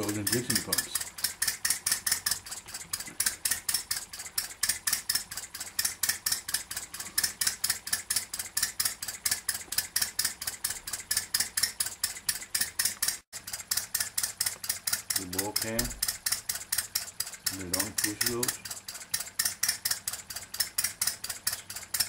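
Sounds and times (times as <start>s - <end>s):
model engine running with rapid ticking: 0.0s - 22.0s.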